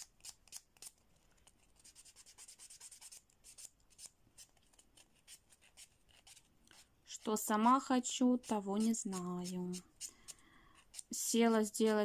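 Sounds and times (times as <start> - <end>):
nail buffer scratching: 0.0 - 12.0.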